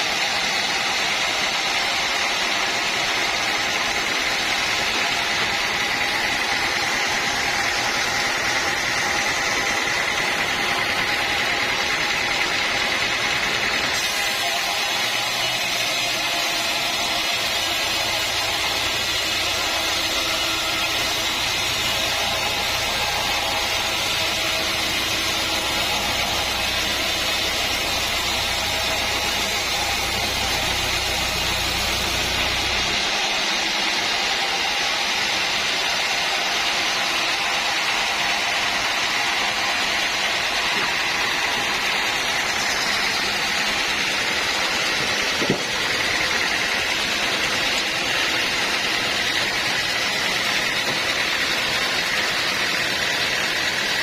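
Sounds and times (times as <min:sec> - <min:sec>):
sawmill machinery whirring: 0:00.0 - 0:54.0.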